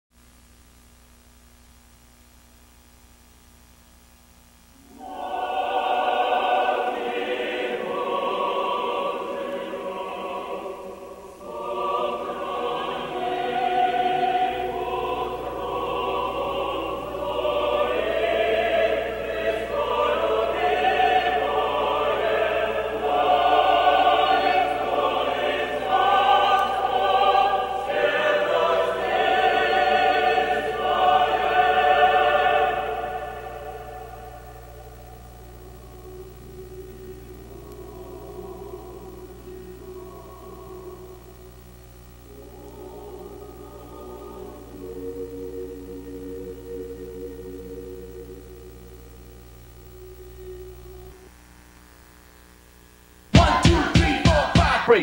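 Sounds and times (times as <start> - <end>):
operatic choir singing: 4.8 - 35.1, 35.8 - 41.3, 42.3 - 49.1, 53.4 - 55.0.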